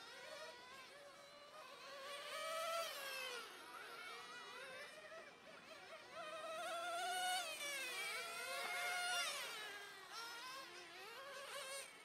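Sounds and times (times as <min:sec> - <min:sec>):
toy cars buzzing whine: 0:00.0 - 0:12.0.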